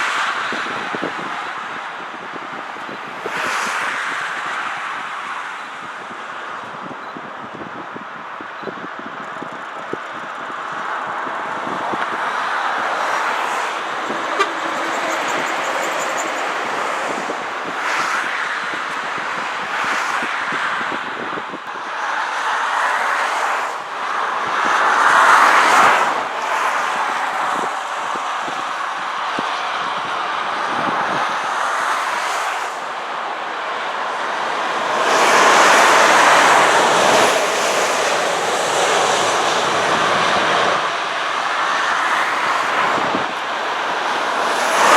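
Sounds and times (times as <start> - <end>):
motorway traffic rushing past: 0.0 - 44.9.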